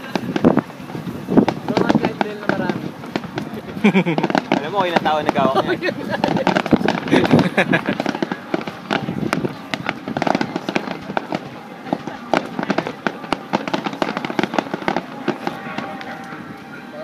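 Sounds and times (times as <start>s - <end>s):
fireworks popping and banging: 0.0s - 17.0s.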